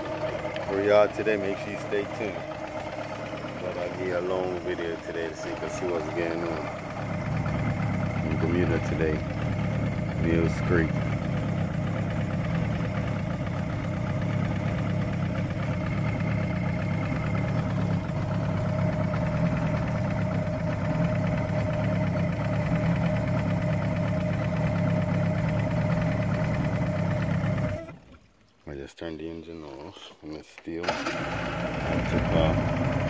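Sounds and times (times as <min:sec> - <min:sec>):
outboard motor running: 0:00.0 - 0:28.5, 0:30.8 - 0:33.0.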